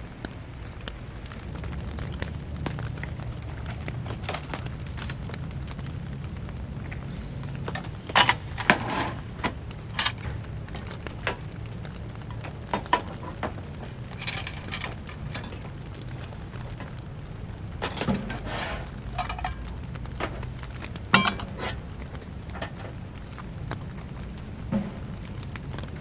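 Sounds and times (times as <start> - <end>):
low background rumble: 0.0 - 26.0
small objects clicking and clattering: 1.4 - 26.0.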